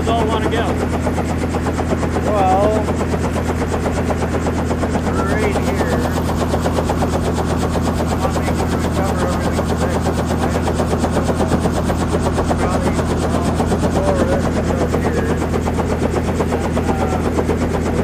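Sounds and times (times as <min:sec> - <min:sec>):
helicopter engine drone: 0:00.0 - 0:18.0
helicopter rotor blades beating: 0:00.0 - 0:18.0.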